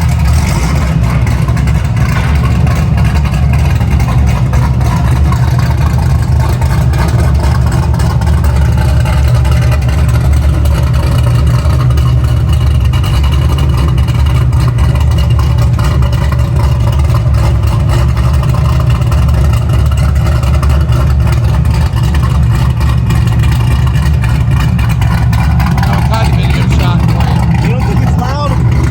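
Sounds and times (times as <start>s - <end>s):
deep car exhaust drone: 0.0s - 28.9s.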